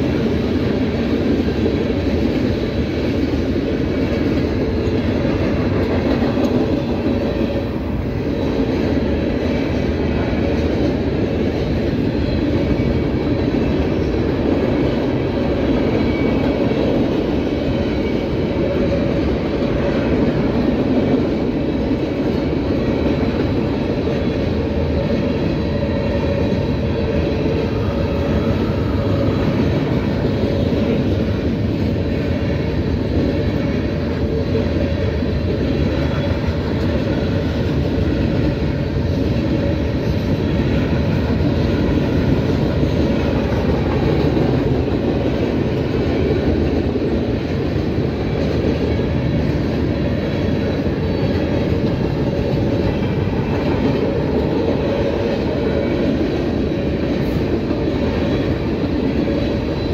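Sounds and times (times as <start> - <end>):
freight cars rolling on rails: 0.0 - 59.9.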